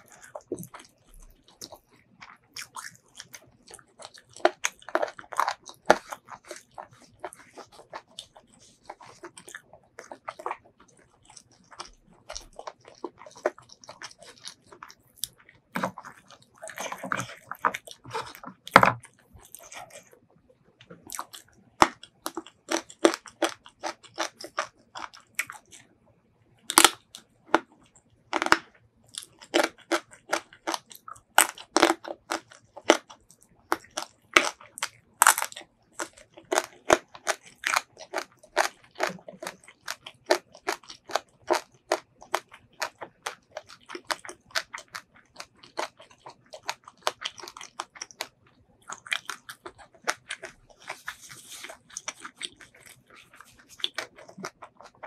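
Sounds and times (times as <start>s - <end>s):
crunchy chewing of raw vegetables: 0.0s - 26.0s, 26.6s - 55.0s.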